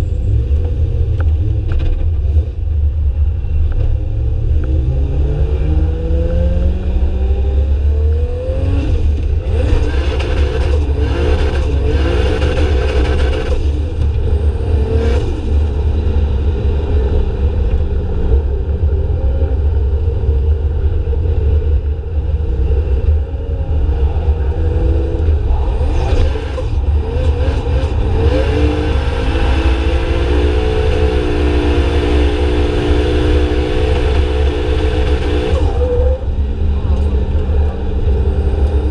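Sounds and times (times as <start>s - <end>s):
car engines revving hard: 0.0s - 38.9s
heavy low rumble: 0.0s - 38.9s.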